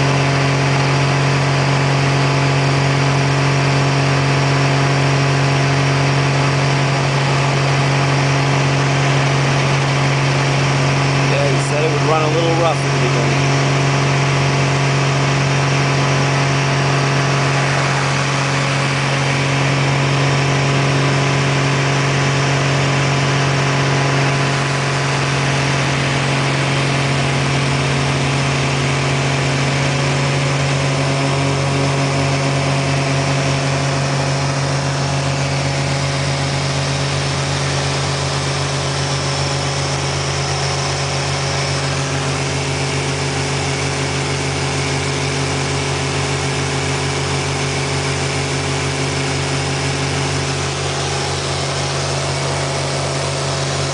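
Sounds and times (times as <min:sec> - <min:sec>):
airplane engine droning: 0:09.2 - 0:53.9.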